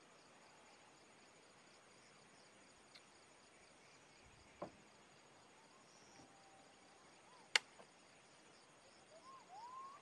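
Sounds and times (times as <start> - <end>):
faint crickets chirping: 0.0 - 10.0.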